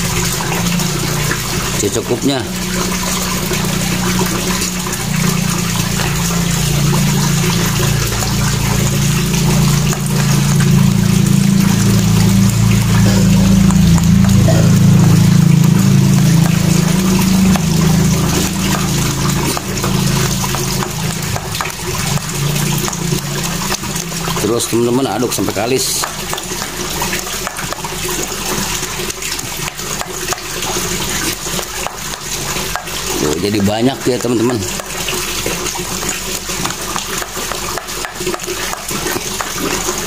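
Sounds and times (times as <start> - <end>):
low steady hum: 0.0 - 40.0
running water: 0.0 - 40.0.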